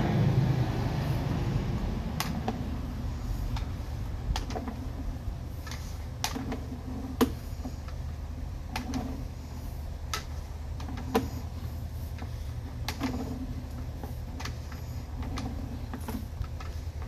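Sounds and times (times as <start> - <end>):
steady low hum: 0.0 - 17.0
cable reel clicking and ticking: 2.2 - 17.0.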